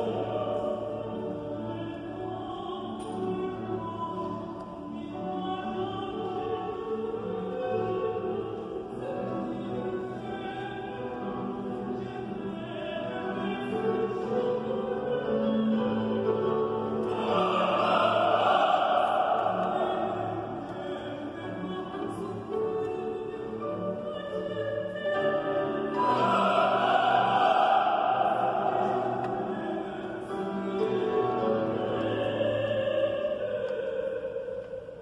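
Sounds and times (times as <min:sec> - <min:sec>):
choir singing: 0:00.0 - 0:35.0.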